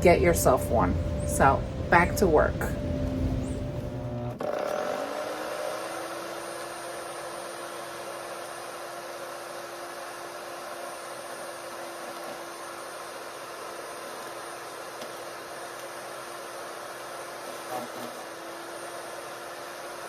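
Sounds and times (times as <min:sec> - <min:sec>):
wood chipper motor whirring: 0:00.0 - 0:20.0.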